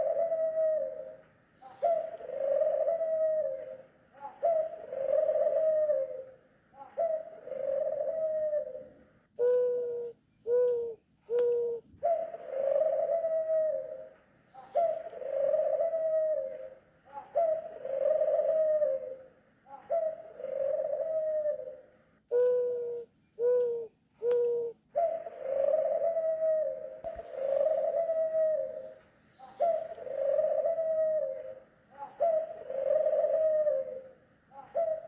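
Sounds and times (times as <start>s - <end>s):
doves calling: 0.0s - 35.0s.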